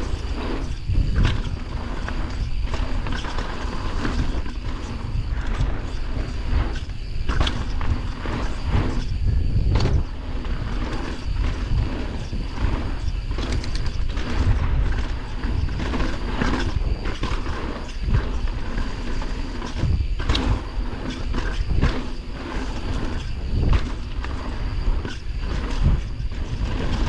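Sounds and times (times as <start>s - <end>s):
bike knocking and rattling: 0.0s - 27.0s
wind rumble on microphone: 0.0s - 27.0s.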